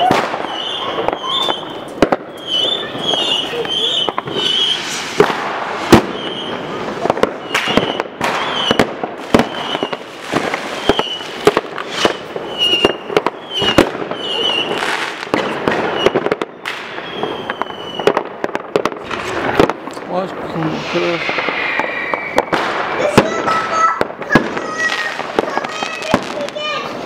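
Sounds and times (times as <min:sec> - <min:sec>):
fireworks high whistles: 0:00.0 - 0:19.6, 0:20.5 - 0:27.0
firecracker and rocket bangs: 0:00.0 - 0:27.0
fireworks crackle: 0:00.0 - 0:27.0.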